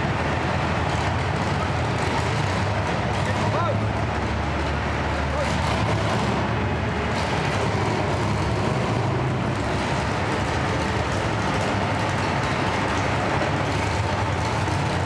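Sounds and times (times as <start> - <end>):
truck engine running low speed: 0.0 - 15.0.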